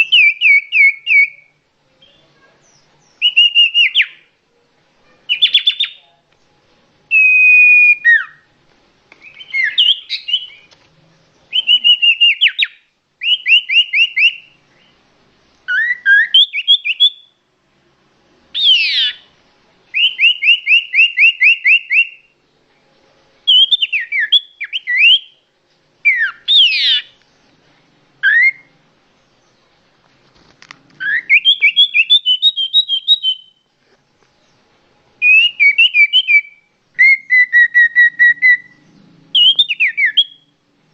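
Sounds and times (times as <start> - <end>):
songbird singing: 0.0 - 17.5, 18.3 - 40.9.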